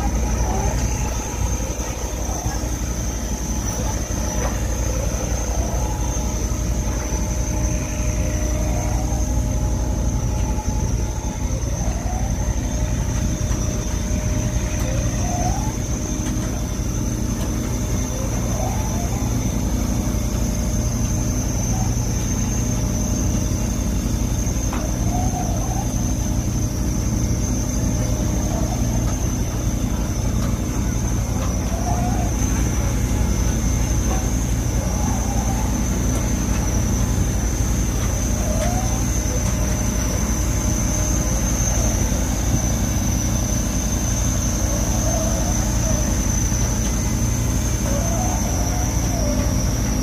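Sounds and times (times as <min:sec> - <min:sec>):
boat engine and machinery drone: 0:00.0 - 0:50.0
thin high whine: 0:00.0 - 0:50.0.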